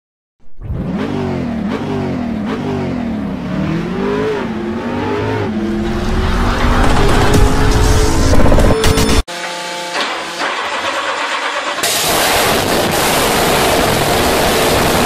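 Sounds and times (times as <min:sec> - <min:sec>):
engine revving: 0:00.5 - 0:09.3, 0:09.9 - 0:15.0.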